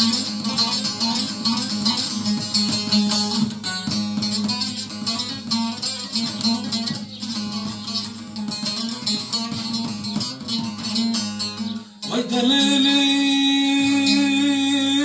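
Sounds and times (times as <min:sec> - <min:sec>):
long-necked lutes plucking folk melody: 0:00.0 - 0:15.0.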